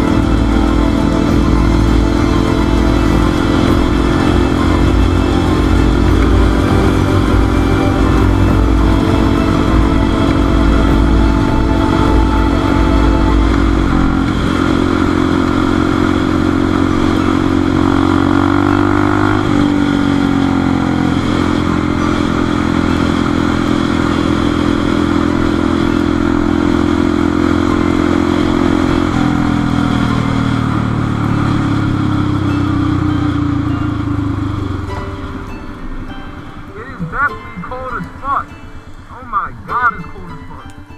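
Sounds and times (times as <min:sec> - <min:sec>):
motorcycle engine running: 0:00.0 - 0:36.7.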